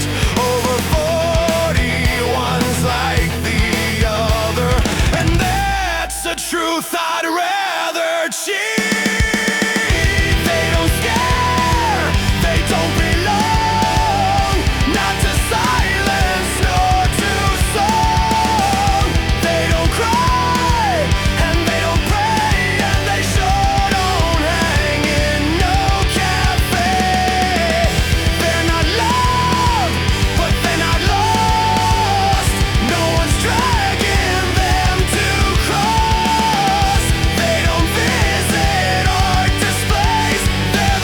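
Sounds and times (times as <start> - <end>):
heavy rock band instrumental: 0.0 - 7.2, 8.5 - 41.0.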